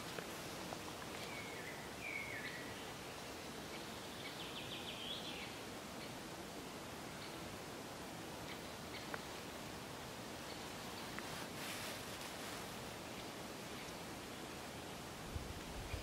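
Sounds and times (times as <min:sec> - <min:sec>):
faint birdsong: 0:01.0 - 0:07.8, 0:08.4 - 0:16.0.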